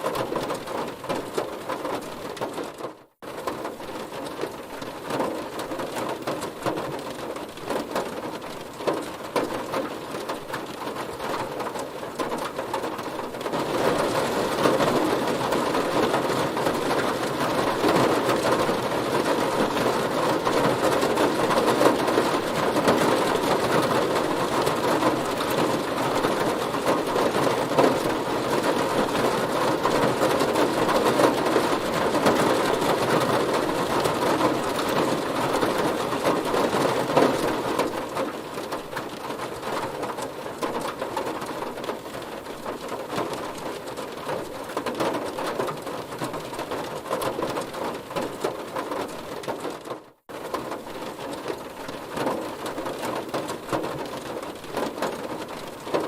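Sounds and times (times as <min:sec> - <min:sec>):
heavy rain on car body: 0:00.0 - 0:56.0.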